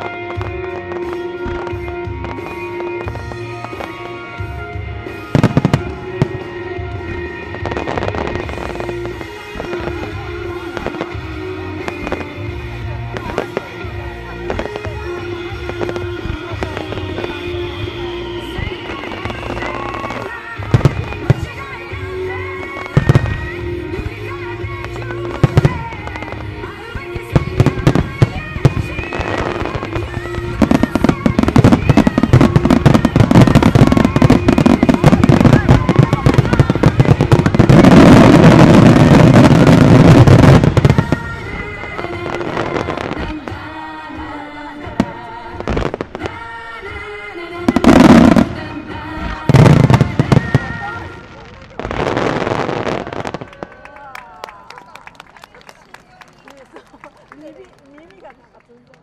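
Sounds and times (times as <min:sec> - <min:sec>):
fireworks bursting: 0:00.0 - 0:58.4
music: 0:00.0 - 0:59.0.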